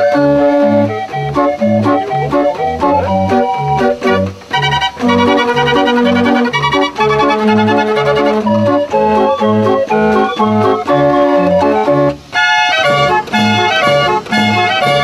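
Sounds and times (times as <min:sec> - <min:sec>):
street organ playing a tune: 0:00.0 - 0:15.0.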